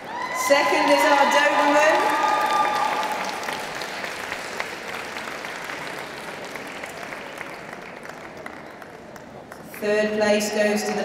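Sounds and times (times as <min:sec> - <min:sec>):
audience applauding: 0:00.6 - 0:09.7.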